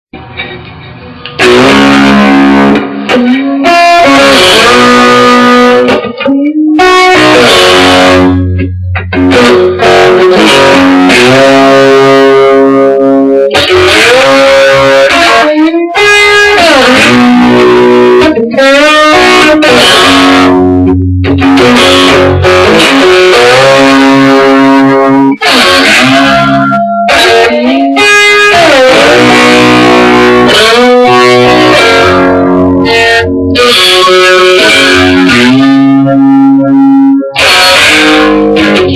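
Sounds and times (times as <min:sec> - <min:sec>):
guitar playing loud chords: 0:00.1 - 0:38.9.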